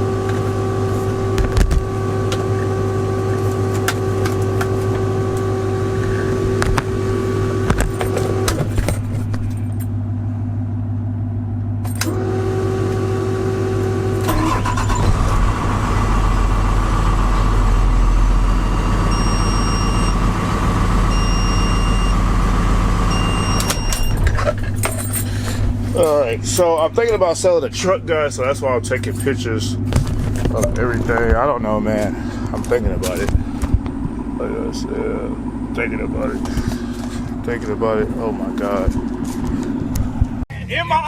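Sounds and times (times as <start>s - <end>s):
vehicle engine rumbling: 0.0s - 41.0s.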